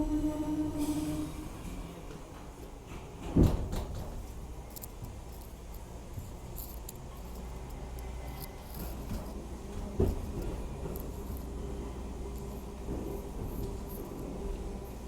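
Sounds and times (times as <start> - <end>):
subway car rumble: 0.0 - 15.0.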